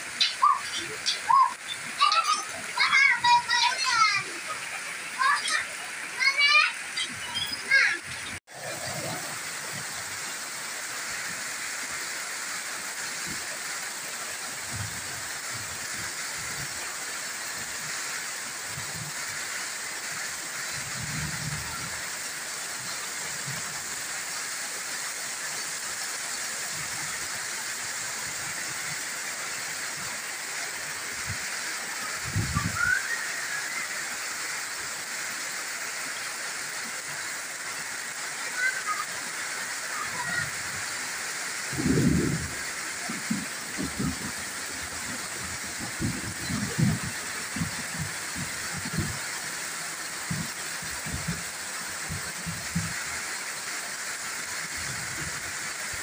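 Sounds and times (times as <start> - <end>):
rain on leaves and roof: 0.0 - 56.0.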